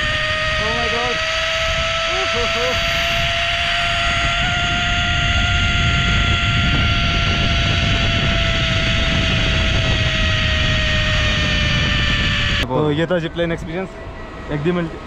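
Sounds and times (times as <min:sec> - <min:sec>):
wind rush on microphone: 0:00.0 - 0:12.7
zipline pulley whine: 0:00.0 - 0:12.7.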